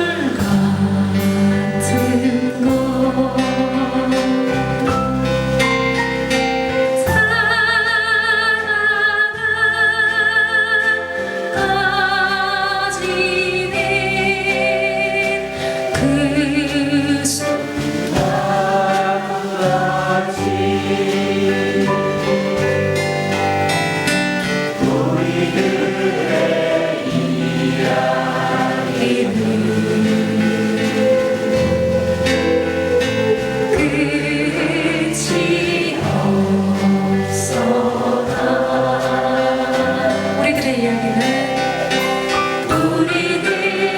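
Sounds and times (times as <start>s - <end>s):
acoustic guitar: 0.0s - 43.9s
voices singing slow melody: 0.0s - 43.9s.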